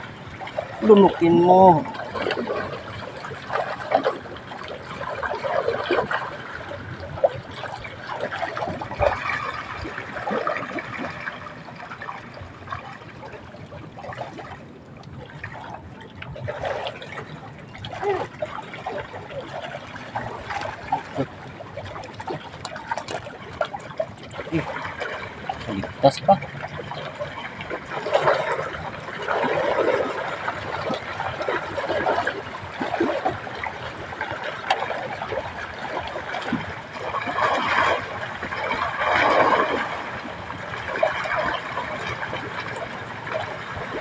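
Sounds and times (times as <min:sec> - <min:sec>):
water splashing and trickling: 0:00.0 - 0:44.0.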